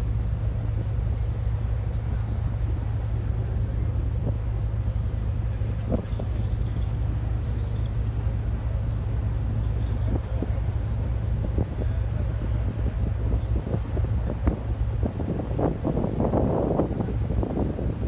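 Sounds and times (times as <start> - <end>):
wind buffeting microphone: 2.1 - 18.0.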